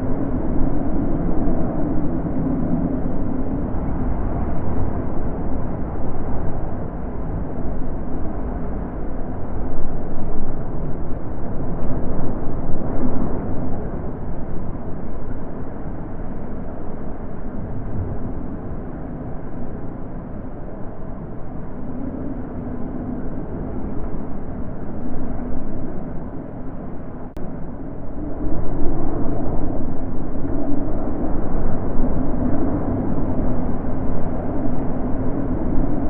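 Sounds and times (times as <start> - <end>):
wind gusting: 0.0 - 36.0.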